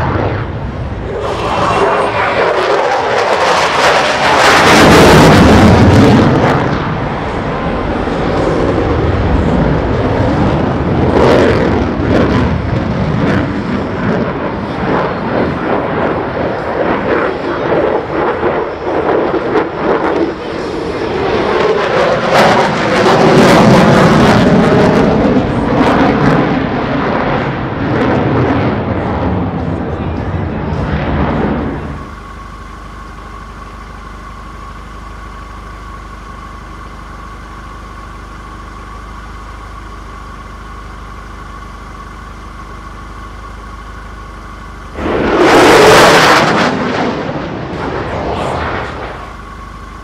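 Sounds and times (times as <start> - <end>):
jet engine roar: 0.0 - 50.0.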